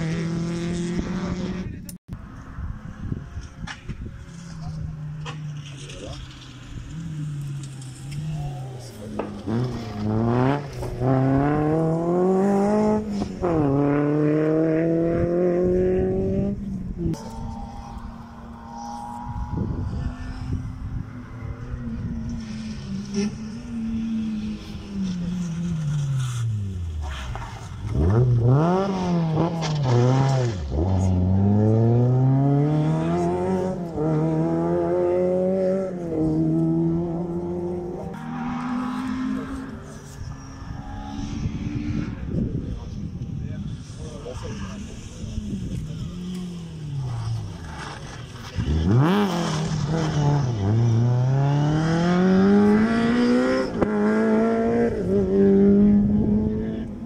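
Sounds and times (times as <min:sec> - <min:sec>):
rally car engine accelerating: 0:00.0 - 0:02.0, 0:03.1 - 0:57.0.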